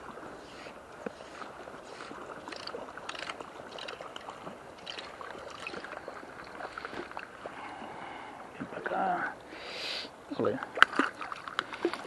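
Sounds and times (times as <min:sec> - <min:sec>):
small water splashes: 0:00.0 - 0:09.6, 0:10.3 - 0:12.0
river running and gurgling: 0:00.0 - 0:12.0.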